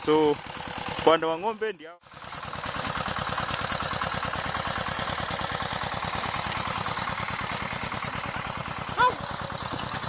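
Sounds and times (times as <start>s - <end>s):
walking tractor engine chugging: 0.0s - 10.0s.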